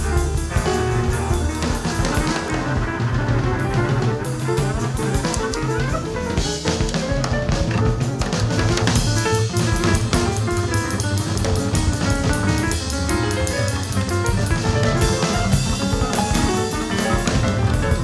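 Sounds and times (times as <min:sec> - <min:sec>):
busy drum kit: 0:00.0 - 0:18.0
fast melodic runs: 0:00.0 - 0:18.0.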